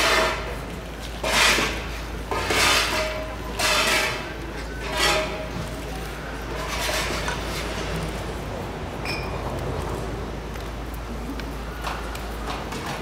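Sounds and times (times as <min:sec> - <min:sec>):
flower pots scraping on cobblestones: 0:00.0 - 0:13.0.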